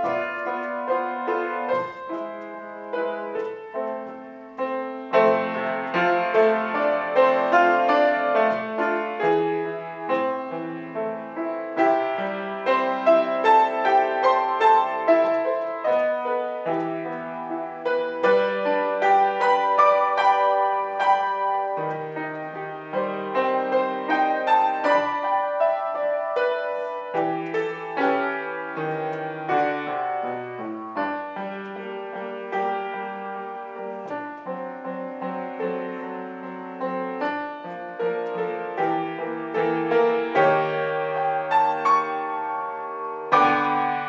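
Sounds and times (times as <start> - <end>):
grand piano piece: 0.0 - 44.0.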